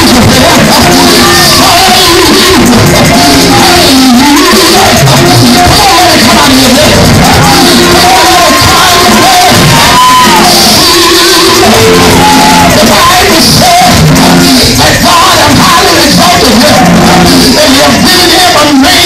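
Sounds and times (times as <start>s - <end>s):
church praise music: 0.0s - 19.0s
voices shouting and singing: 0.0s - 19.0s.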